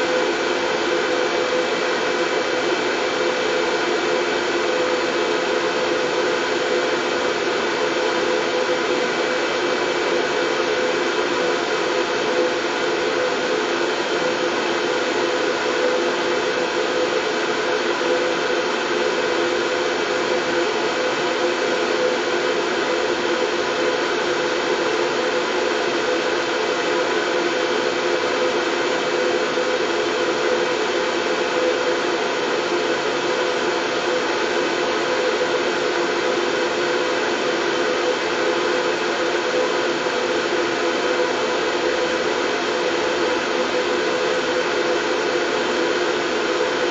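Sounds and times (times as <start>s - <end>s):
steady whirring white noise: 0.0s - 46.9s.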